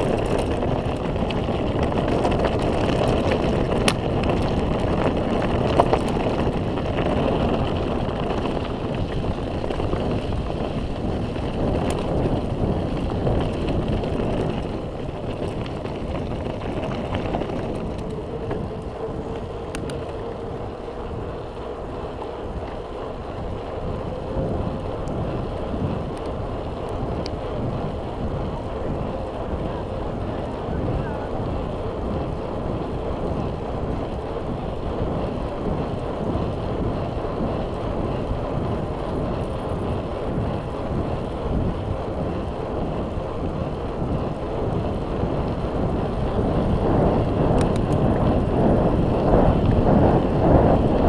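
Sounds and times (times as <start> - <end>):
bike clicks and rattles: 0.0 - 51.0
bike tyres on dirt road: 0.0 - 51.0
wind on microphone: 0.0 - 51.0.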